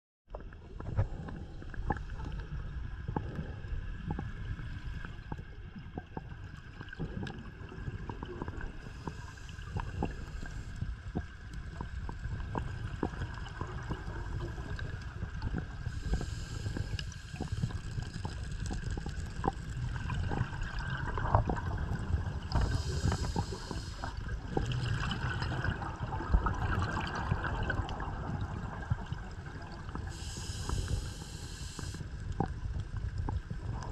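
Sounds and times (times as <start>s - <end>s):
low underwater rumble: 0.3s - 33.9s
gurgling exhaled bubbles: 0.4s - 33.9s.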